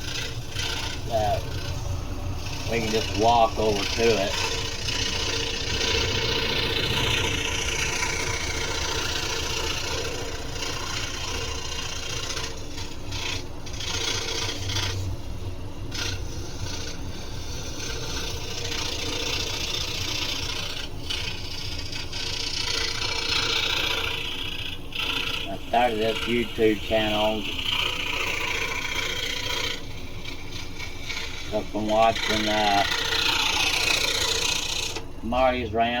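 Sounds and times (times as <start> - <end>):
scroll saw rasping through wood: 0.0 - 36.0.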